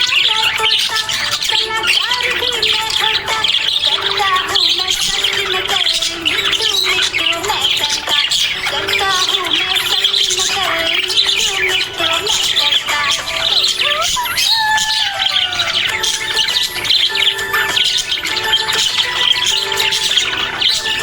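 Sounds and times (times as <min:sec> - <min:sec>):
parrots chirping and chattering: 0:00.0 - 0:21.0
whistled gliding bird notes: 0:00.0 - 0:21.0.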